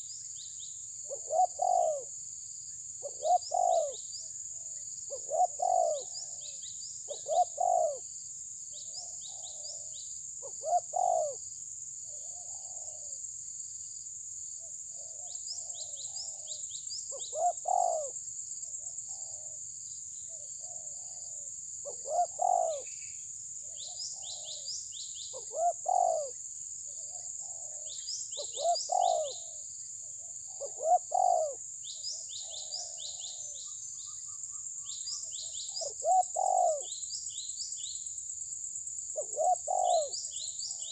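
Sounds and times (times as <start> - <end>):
small birds chirping: 0.0 - 2.1, 2.7 - 8.0, 8.7 - 11.4, 14.6 - 38.3, 39.0 - 40.9
steady high-pitched hiss: 0.0 - 40.9
bird cooing: 1.0 - 2.2, 3.0 - 8.1, 8.8 - 11.4, 12.1 - 13.2, 14.6 - 19.6, 20.3 - 24.7, 25.3 - 37.0, 39.1 - 40.9.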